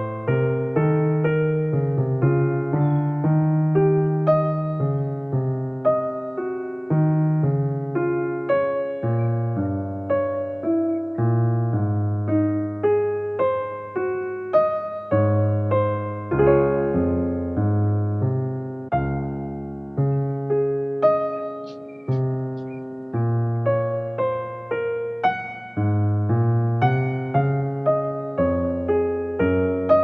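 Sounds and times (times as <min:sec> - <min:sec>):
gentle electric piano: 0:00.0 - 0:30.0.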